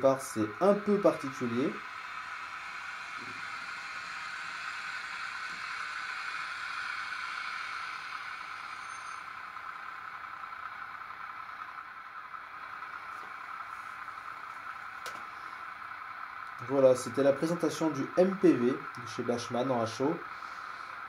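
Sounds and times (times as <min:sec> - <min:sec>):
model train running on track: 0:00.0 - 0:21.0.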